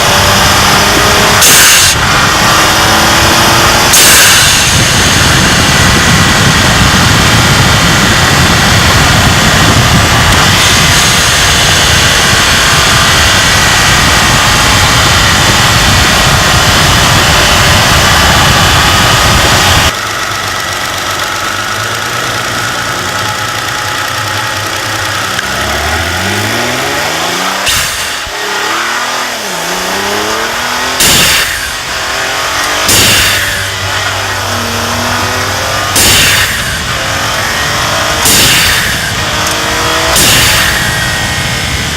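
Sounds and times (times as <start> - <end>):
engine and road noise: 0.0 - 41.9
engine revving up: 0.0 - 41.9.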